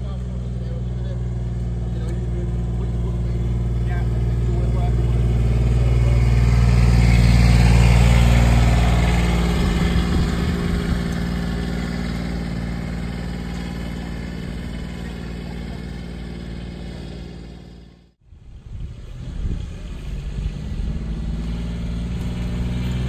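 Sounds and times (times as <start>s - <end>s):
utility vehicle engine running: 0.0s - 23.0s
vehicle driving away: 0.0s - 23.0s.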